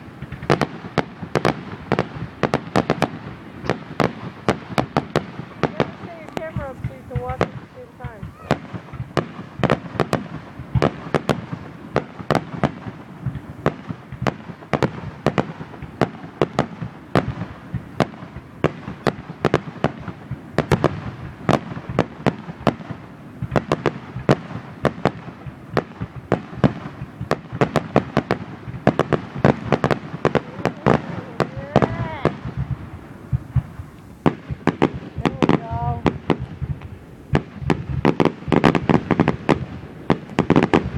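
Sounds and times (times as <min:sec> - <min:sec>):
fireworks bangs and pops: 0:00.0 - 0:40.9.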